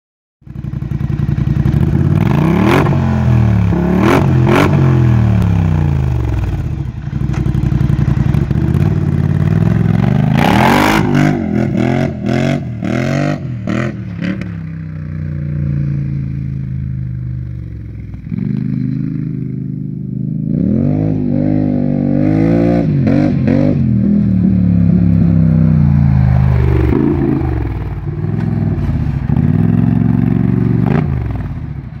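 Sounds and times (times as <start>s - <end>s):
quad bike engine revving: 0.5s - 32.0s.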